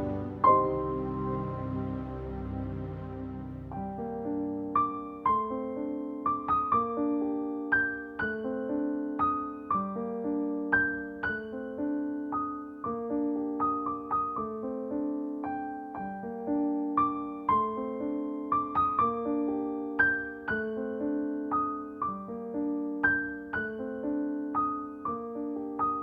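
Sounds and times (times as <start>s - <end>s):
gentle piano tune: 0.0s - 26.0s.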